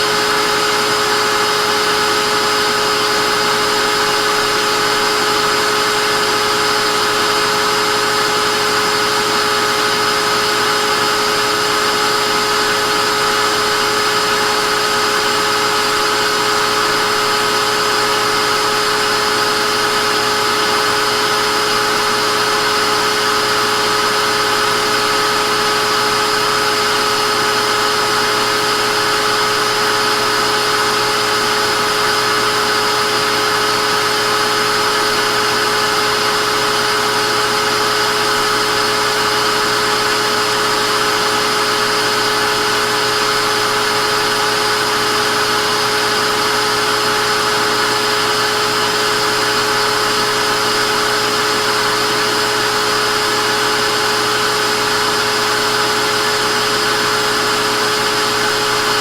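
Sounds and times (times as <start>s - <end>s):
vacuum cleaner motor running: 0.0s - 59.0s.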